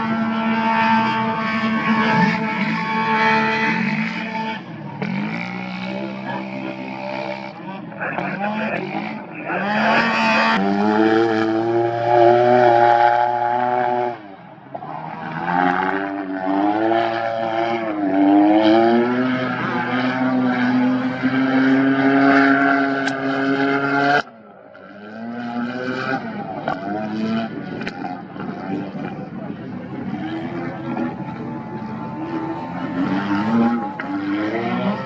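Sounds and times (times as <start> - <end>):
race vehicle engines revving: 0.0 - 35.0.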